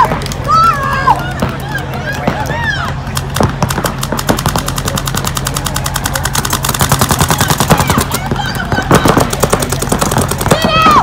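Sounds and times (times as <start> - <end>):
paintball guns firing rapidly: 0.0 - 11.0.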